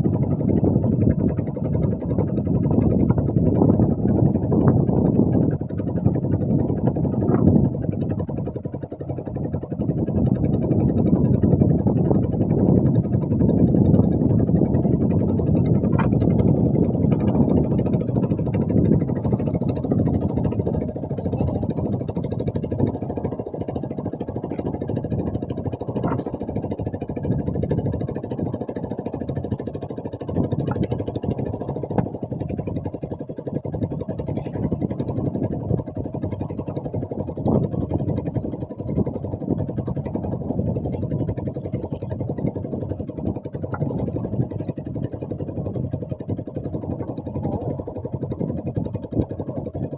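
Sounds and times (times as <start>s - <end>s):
small boat engine rumbling: 0.0s - 49.9s.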